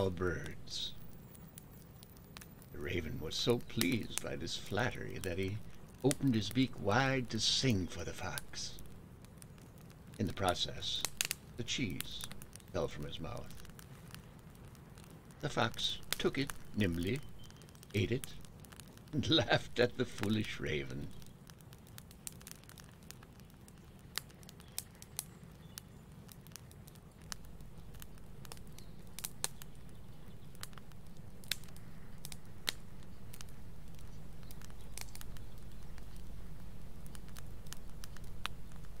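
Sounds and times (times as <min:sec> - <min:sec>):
campfire logs crackling: 0:00.0 - 0:39.0
sharp pops of fire: 0:00.0 - 0:39.0.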